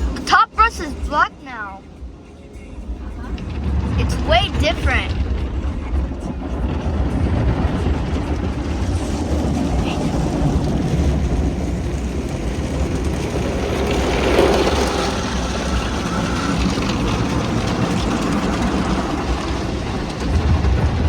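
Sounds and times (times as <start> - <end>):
low rumble: 0.9 - 21.0.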